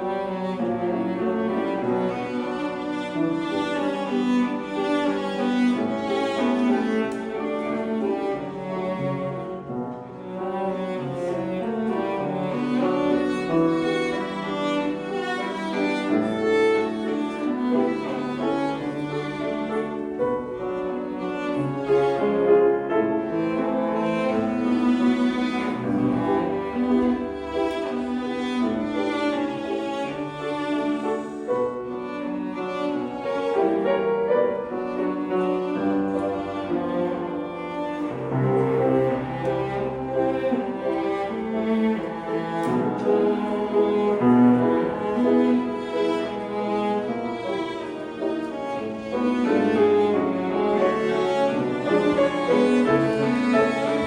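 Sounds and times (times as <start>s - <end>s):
cello melody: 0.0s - 54.0s
piano accompaniment: 0.0s - 54.0s.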